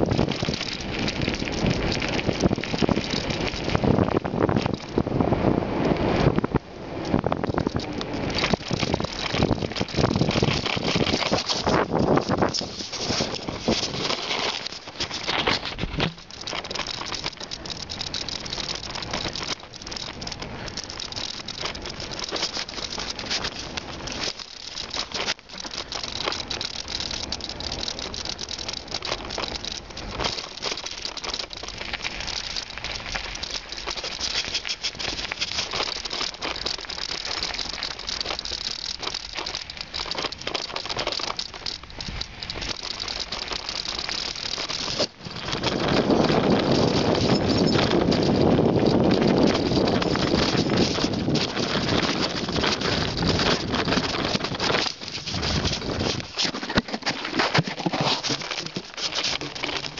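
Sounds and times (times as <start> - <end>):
bicycle rattling over gravel: 0.0 - 59.9.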